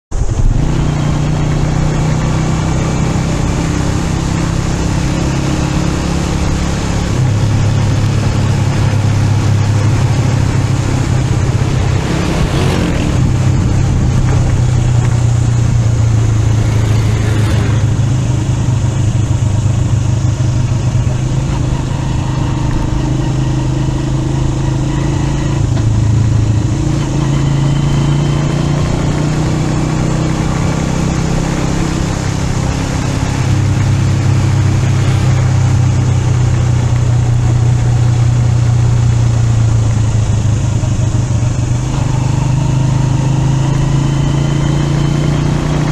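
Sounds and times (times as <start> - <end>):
road noise: 0.1 - 45.9
vehicle engine running: 0.1 - 45.9.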